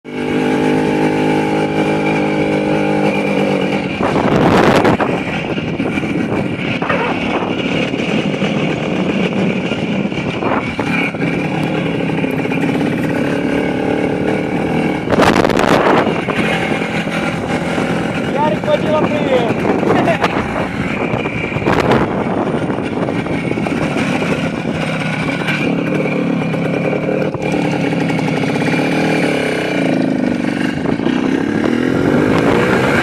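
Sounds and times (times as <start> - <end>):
motorcycle engine running: 0.0 - 33.0
rushes of noise: 0.1 - 33.0.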